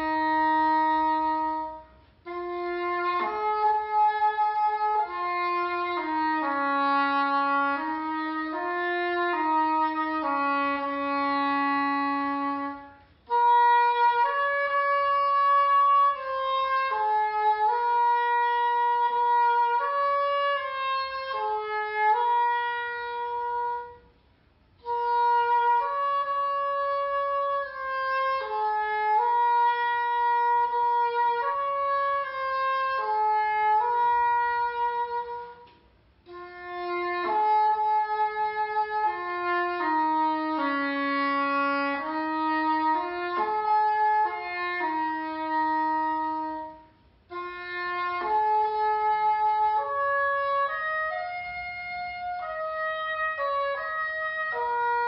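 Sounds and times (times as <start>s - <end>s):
solo oboe melody: 0.0s - 55.0s.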